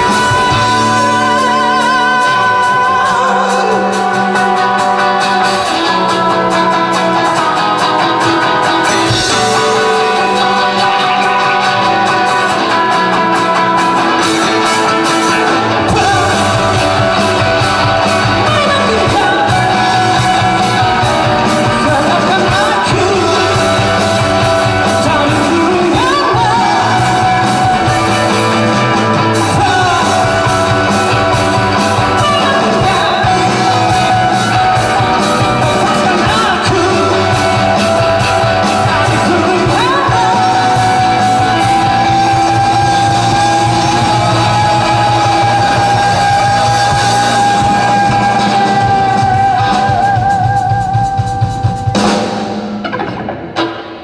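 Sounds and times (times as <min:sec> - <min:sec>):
person singing: 0:00.0 - 0:52.4
drums: 0:00.0 - 0:54.0
electric guitar: 0:00.0 - 0:54.0.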